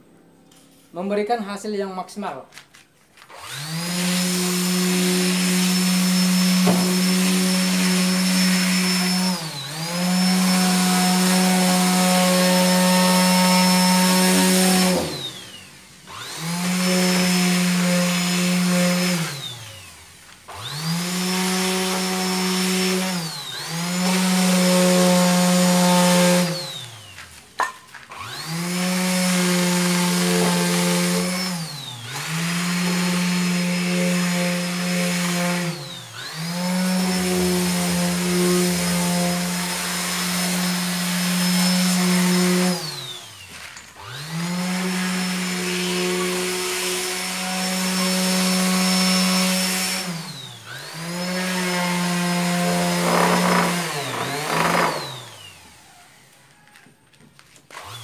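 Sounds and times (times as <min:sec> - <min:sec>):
orbital sander on wood: 0:03.2 - 0:56.0, 0:57.4 - 0:58.0.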